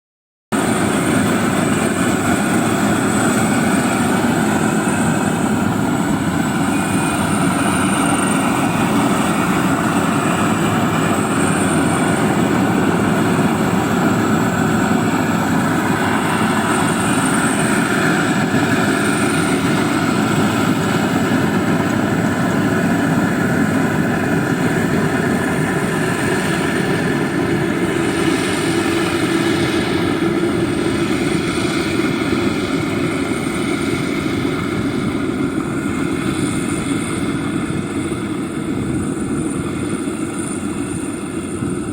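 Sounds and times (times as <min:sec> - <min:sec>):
heavy farm machinery running: 0:00.6 - 0:41.9.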